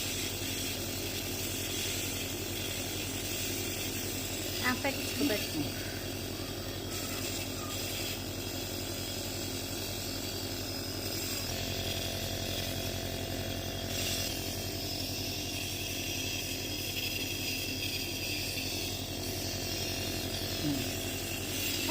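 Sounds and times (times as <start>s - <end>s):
nebulizer buzzing hum: 0.0s - 21.9s.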